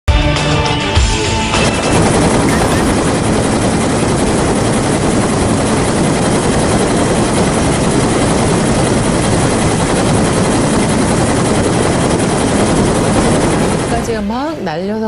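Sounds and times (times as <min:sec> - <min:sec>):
helicopter rotor and engine: 0:00.6 - 0:15.0.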